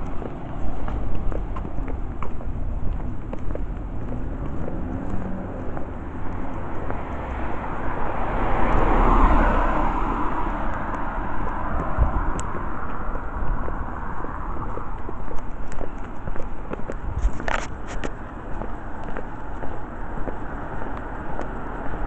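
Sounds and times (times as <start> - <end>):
car passing: 0.0 - 22.0
steady low traffic rumble: 0.0 - 22.0.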